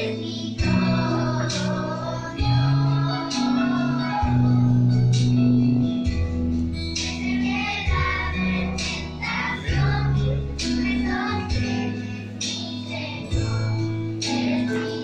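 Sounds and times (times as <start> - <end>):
children's choir singing: 0.0 - 4.5, 7.0 - 15.0
keyboard bass notes: 0.0 - 15.0.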